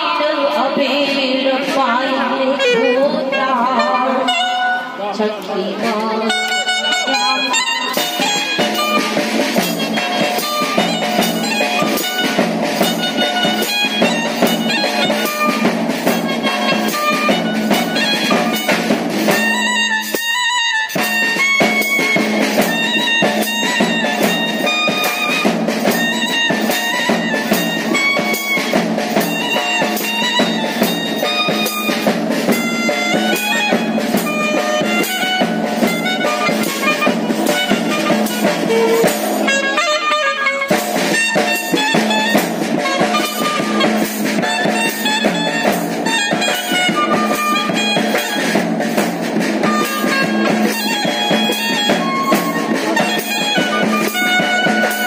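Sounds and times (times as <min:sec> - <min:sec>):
drums keeping time: 0:00.0 - 0:55.0
reedy wind instrument melody: 0:01.7 - 0:55.0.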